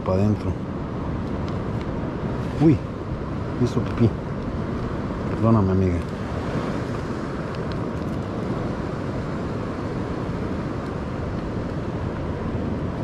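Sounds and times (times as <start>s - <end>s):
surf washing: 0.0s - 13.0s
wind rushing on microphone: 0.0s - 13.0s.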